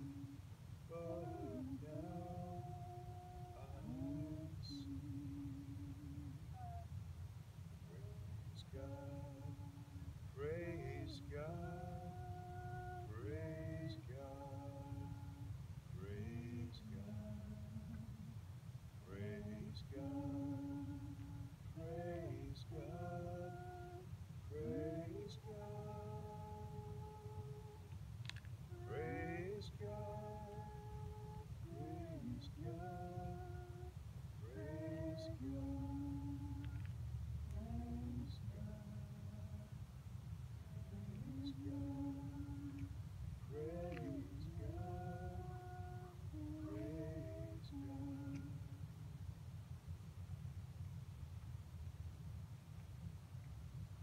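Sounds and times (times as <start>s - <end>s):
voices singing unaccompanied: 0.0s - 7.0s, 7.6s - 49.0s
low steady rumble: 0.0s - 54.0s.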